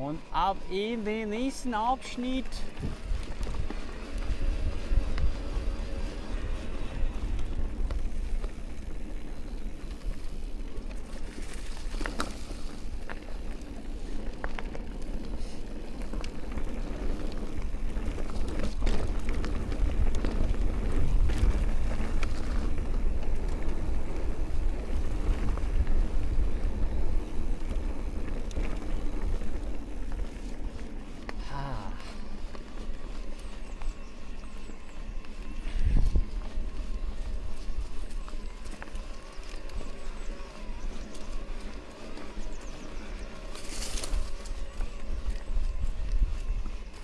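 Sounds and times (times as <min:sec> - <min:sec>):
bike tyres rolling over dirt: 0:00.0 - 0:47.0
wind rumbling on microphone: 0:00.0 - 0:47.0.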